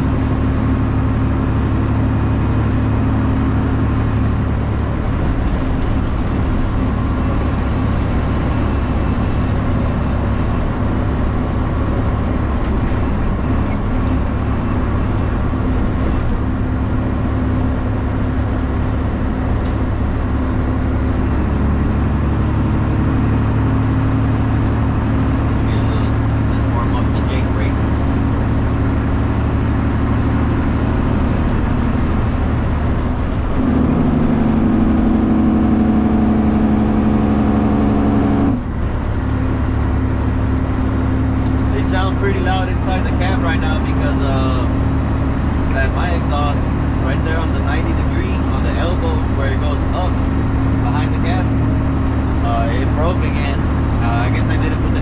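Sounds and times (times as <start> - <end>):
truck diesel engine exhaust: 0.0 - 55.0.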